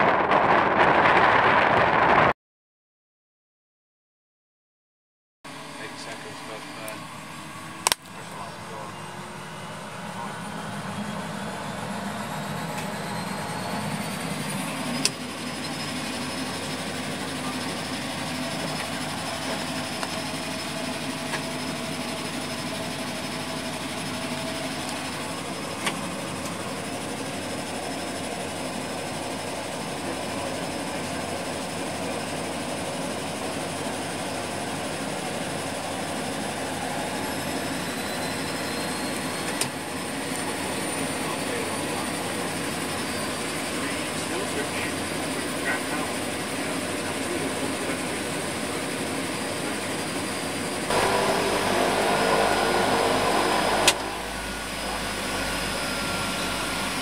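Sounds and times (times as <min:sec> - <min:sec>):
propeller drone: 0:00.0 - 0:02.3, 0:05.5 - 0:57.0
high turbine whine: 0:05.5 - 0:57.0.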